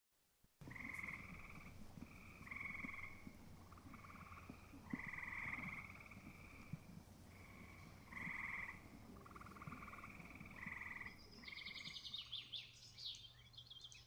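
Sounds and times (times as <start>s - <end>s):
frogs trilling: 0.6s - 13.5s.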